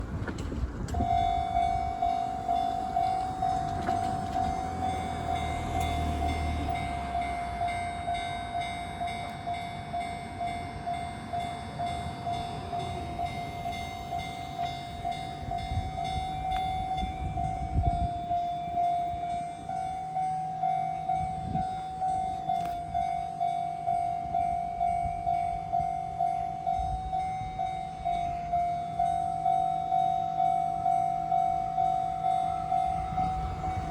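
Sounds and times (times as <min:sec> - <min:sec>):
train rumbling past: 0:00.0 - 0:33.9
level crossing warning bell: 0:00.3 - 0:33.9.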